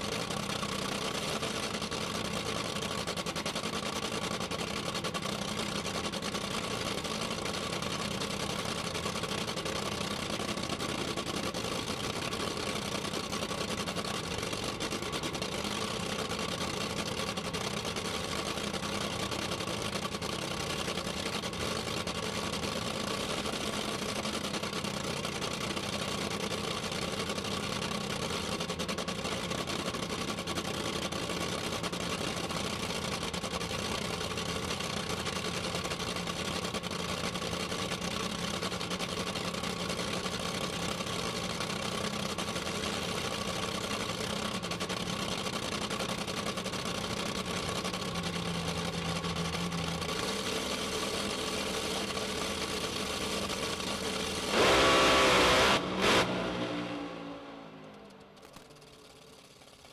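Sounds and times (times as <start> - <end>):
race car engine idling: 0.0 - 59.9.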